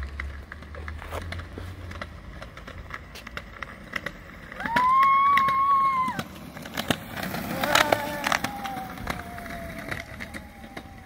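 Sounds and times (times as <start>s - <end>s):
scooter wheels rolling on concrete: 0.0s - 11.0s.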